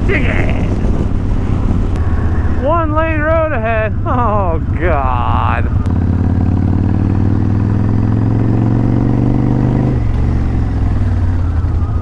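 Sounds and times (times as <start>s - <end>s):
motorcycle engine slowing: 0.0s - 12.0s.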